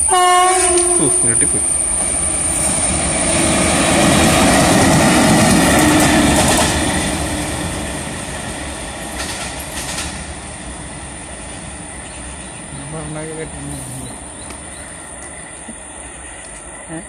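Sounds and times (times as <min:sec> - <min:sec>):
locomotive wheels rolling on rails: 0:00.0 - 0:17.0.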